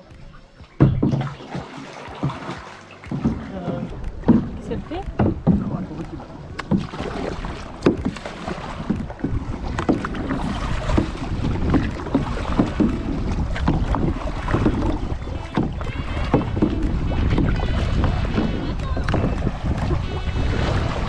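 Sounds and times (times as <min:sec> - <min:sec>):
paddle knocking against canoe: 0:00.0 - 0:21.0
paddle strokes splashing water: 0:00.0 - 0:21.0
wind on microphone: 0:03.6 - 0:21.0.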